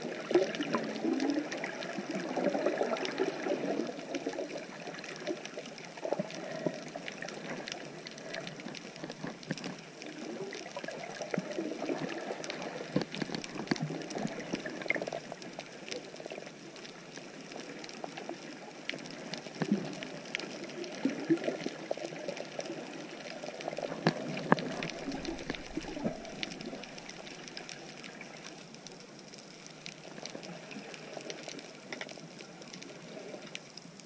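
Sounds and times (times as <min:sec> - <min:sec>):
water sloshing and gurgling: 0:00.0 - 0:33.6.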